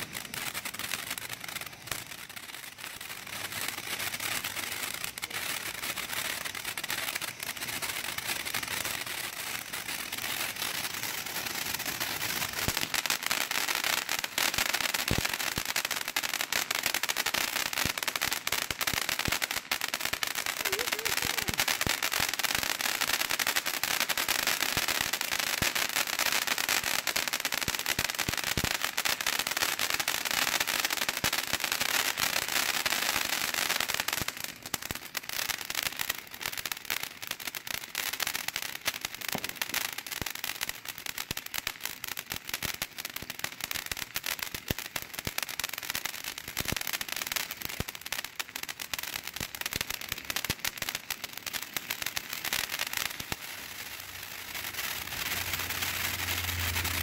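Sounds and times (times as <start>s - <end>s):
firework fountain hissing: 0.0s - 57.0s
sharp crackling pops: 0.0s - 57.0s.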